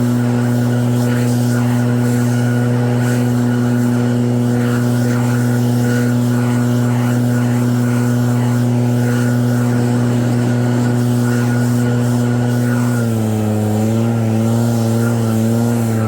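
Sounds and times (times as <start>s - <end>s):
snow blower running: 0.0s - 16.0s.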